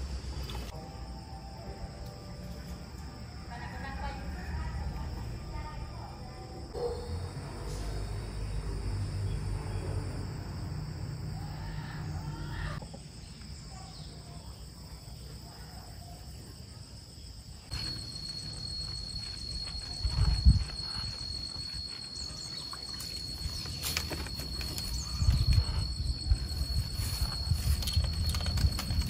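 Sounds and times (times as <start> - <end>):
insects trilling: 0.0 - 29.0
outdoor background noise: 0.0 - 29.0.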